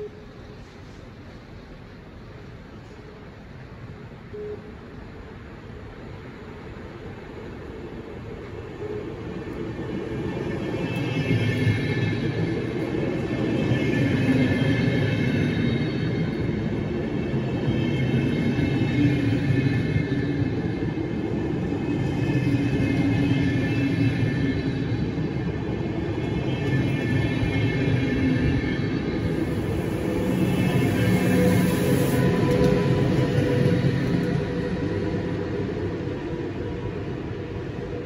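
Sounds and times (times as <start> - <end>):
train passing: 0.0 - 38.0.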